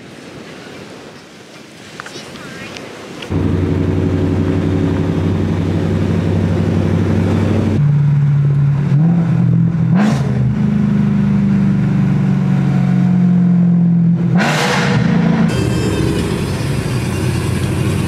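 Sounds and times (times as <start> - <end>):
car engine and road noise: 2.0 - 18.0.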